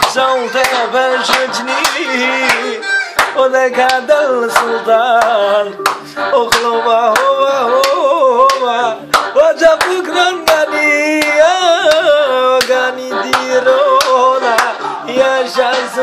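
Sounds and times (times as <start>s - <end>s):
sharp claps or beats: 0.0s - 14.8s
man singing ornamented melody: 0.0s - 16.0s.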